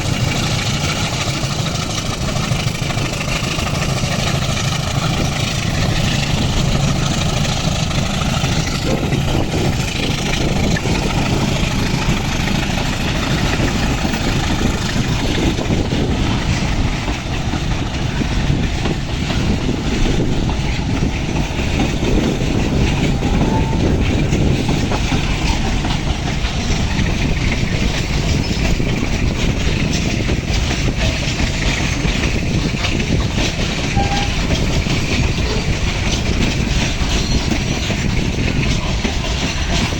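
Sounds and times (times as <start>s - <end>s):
freight train rumbling: 0.0s - 39.9s
wheels clattering on rails: 0.0s - 39.9s.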